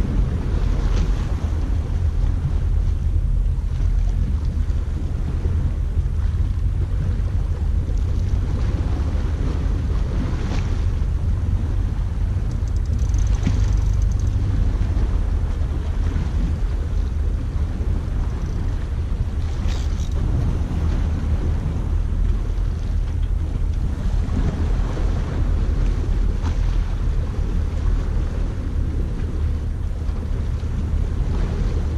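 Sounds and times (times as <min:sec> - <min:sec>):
sea noise: 0:00.0 - 0:31.9
wind buffeting microphone: 0:00.0 - 0:31.9.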